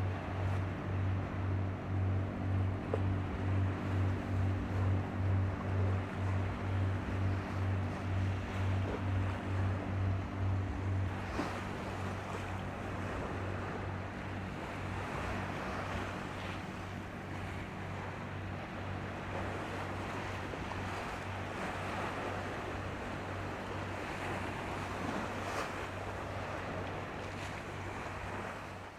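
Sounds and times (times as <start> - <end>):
ferry engines droning: 0.0 - 28.6
wind and sea water wash: 0.0 - 28.9.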